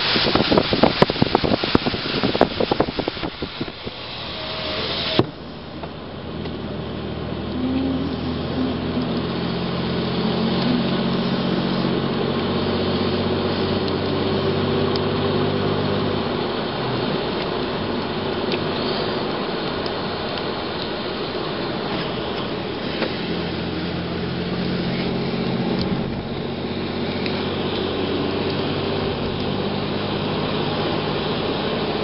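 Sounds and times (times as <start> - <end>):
traffic passing on wet road: 0.0 - 32.0
vehicle engine hum: 0.0 - 32.0.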